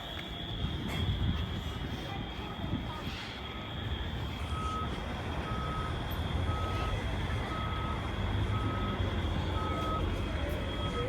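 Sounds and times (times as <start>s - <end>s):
diesel engine rumble: 0.0s - 11.0s
reversing alarm beeps: 0.0s - 11.0s.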